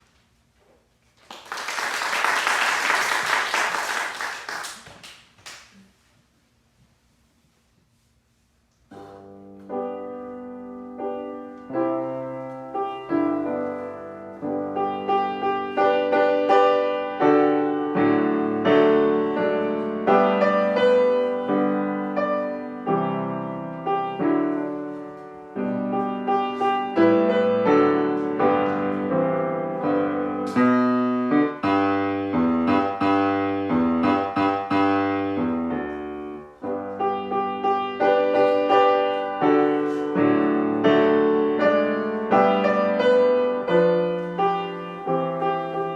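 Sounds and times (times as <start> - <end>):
solo piano piece: 8.9 - 45.9.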